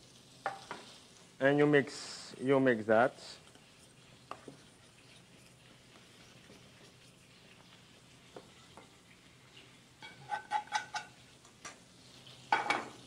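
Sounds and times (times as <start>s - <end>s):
faint kitchen room noise: 0.0s - 13.0s.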